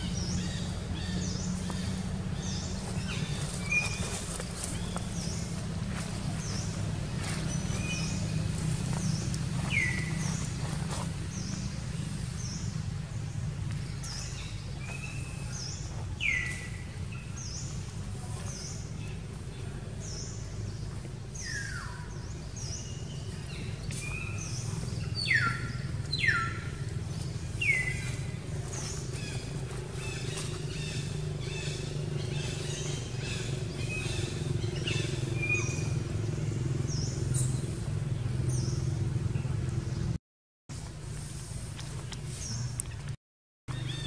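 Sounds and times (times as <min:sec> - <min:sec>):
birds chirping: 0:00.0 - 0:40.2, 0:41.1 - 0:44.0
steady low hum: 0:00.0 - 0:43.2.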